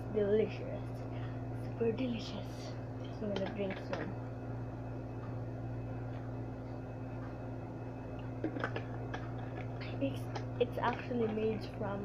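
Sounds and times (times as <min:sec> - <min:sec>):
low hum of room tone: 0:00.0 - 0:12.0.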